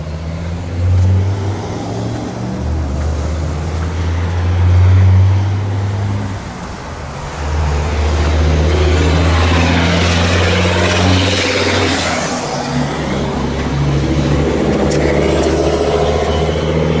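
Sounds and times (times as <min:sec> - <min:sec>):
diesel bus engine droning: 0:00.0 - 0:17.0.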